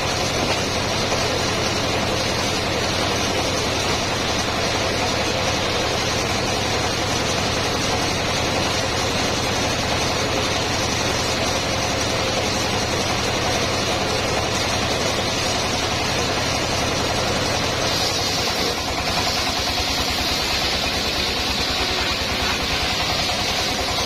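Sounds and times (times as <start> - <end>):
circular sawmill running: 0.0 - 24.0.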